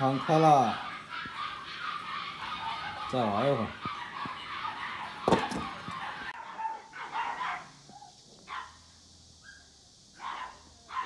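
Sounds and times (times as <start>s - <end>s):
dog barking: 0.0s - 8.8s, 9.4s - 11.0s.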